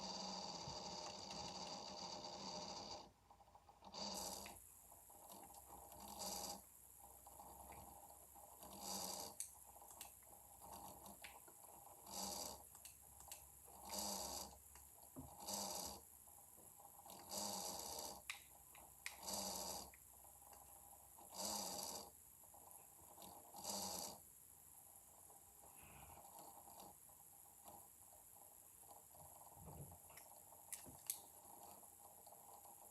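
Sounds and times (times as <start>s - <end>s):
computer grinding noises: 0.0s - 32.9s.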